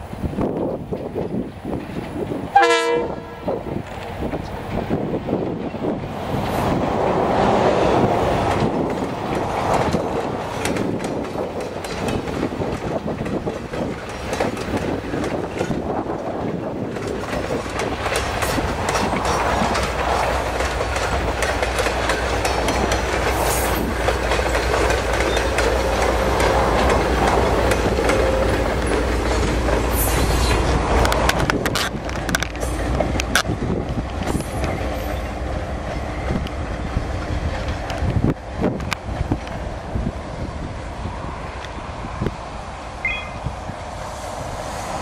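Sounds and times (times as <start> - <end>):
train wheels clicking over rail joints: 0.0 - 2.6, 3.3 - 40.2
diesel locomotive engine rumble: 0.0 - 45.0.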